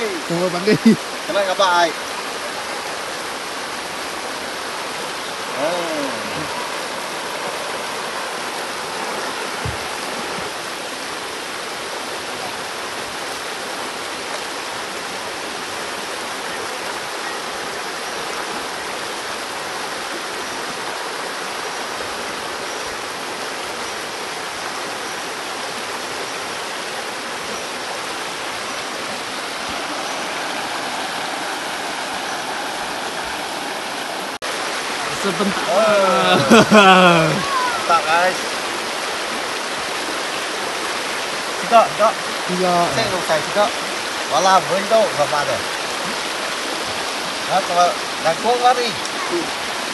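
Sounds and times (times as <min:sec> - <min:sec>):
river rushing over stones: 0:00.0 - 0:49.9.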